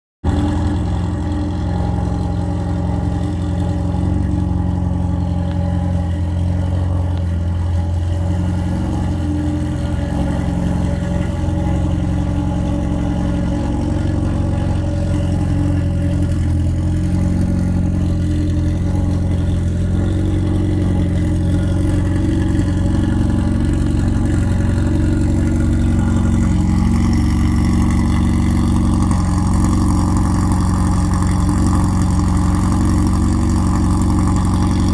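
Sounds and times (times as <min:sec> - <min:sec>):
car engine idling: 0:00.2 - 0:34.9.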